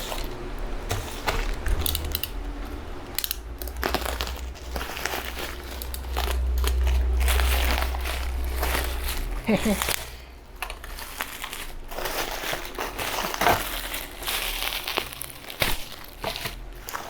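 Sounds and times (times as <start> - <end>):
plastic packaging crinkling: 0.0 - 17.0
low rumble: 0.2 - 15.3.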